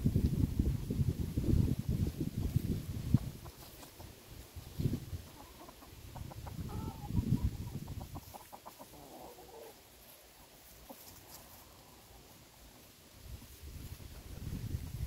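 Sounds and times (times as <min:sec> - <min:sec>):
chickens clucking: 0:02.4 - 0:15.0.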